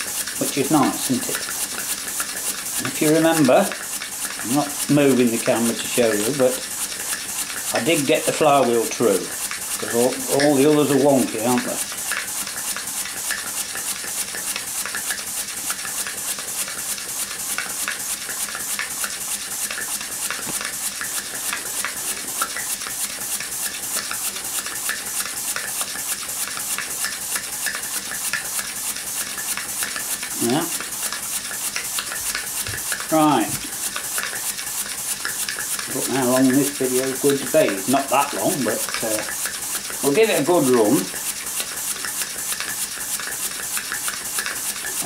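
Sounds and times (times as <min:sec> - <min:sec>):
steam engine exhaust puffs: 0:00.0 - 0:45.0.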